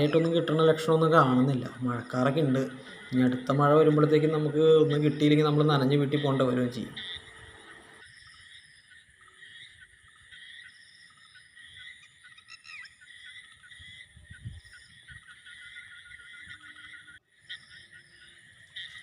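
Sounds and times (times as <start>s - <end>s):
birds chirping: 0.0s - 19.0s
gliding bird call: 0.0s - 19.0s
insects chirring: 0.0s - 19.0s.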